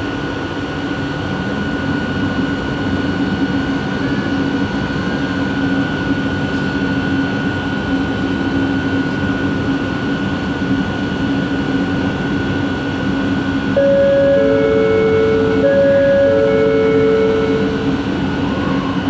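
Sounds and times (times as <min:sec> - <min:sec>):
high train whine: 0:00.0 - 0:19.0
metro train running rumble: 0:00.0 - 0:19.0.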